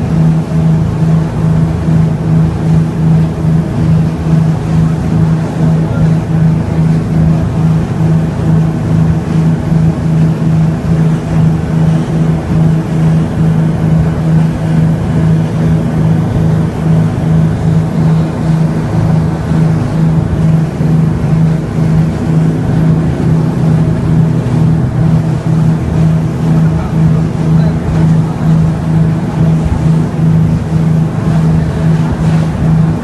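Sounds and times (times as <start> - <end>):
boat engine droning: 0.0 - 33.0.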